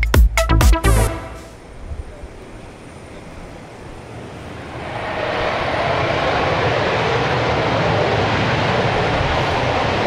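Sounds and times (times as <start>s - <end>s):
jet engine roar: 1.4s - 10.0s.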